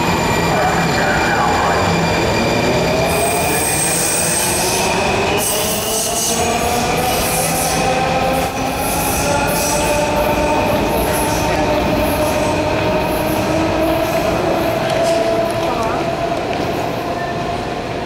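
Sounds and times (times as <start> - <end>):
train cars rumbling: 0.0 - 18.0.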